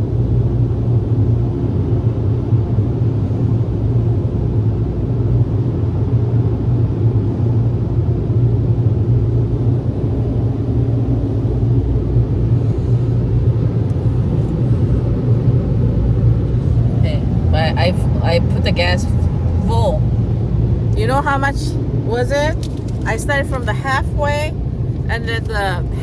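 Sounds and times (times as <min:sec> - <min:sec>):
car wash machinery rumbling: 0:00.0 - 0:26.0.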